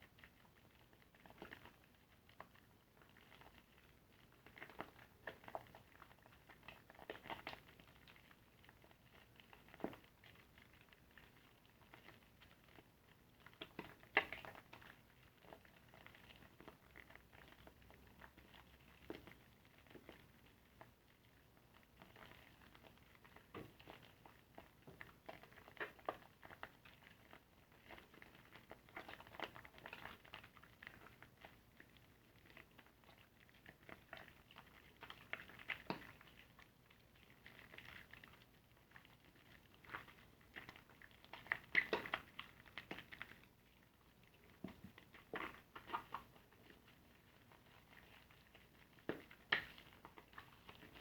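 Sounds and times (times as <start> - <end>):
wet sponge squishing: 8.7 - 51.0.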